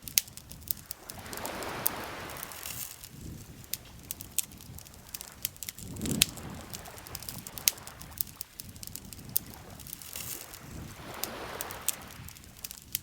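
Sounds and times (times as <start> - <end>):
campfire crackling and popping: 0.0 - 13.0
lake water lapping: 0.0 - 13.0.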